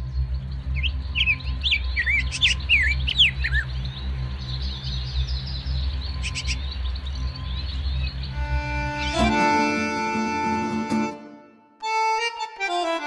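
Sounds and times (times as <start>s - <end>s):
birds chirping: 0.0s - 11.0s
low steady drone: 0.0s - 11.2s.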